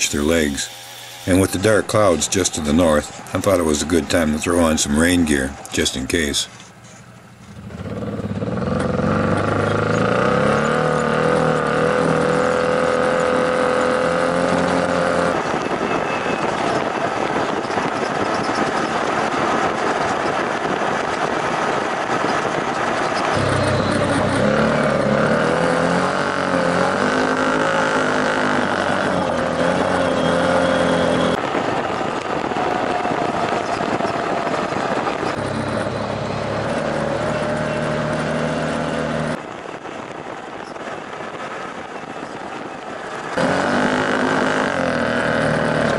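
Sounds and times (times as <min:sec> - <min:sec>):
off-road vehicle engine: 0:00.0 - 0:31.4, 0:34.6 - 0:39.5, 0:42.2 - 0:45.9
trail noise: 0:00.0 - 0:45.9
wind: 0:00.0 - 0:45.9.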